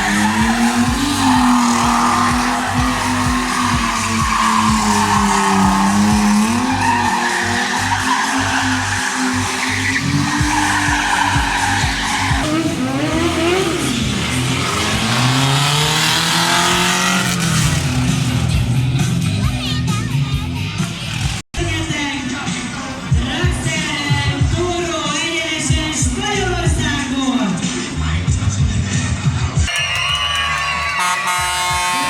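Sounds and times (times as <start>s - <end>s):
monster truck engine revving: 0.0s - 29.7s.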